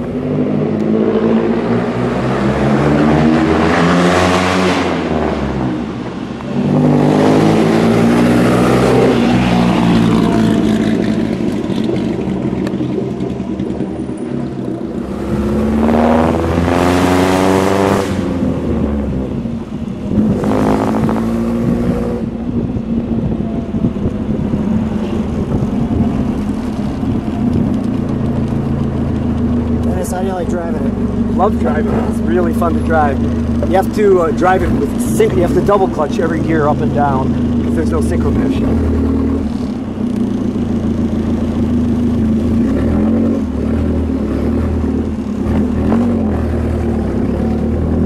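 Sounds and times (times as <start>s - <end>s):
car engine changing gear: 0.0s - 48.0s.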